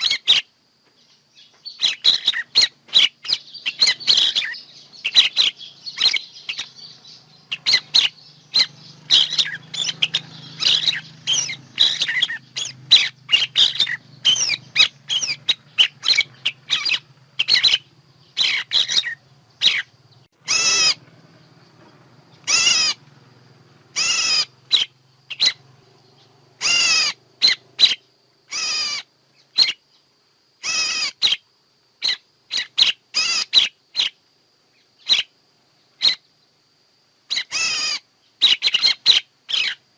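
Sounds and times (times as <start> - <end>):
harsh bird calls: 0.0 - 36.4, 37.2 - 39.9.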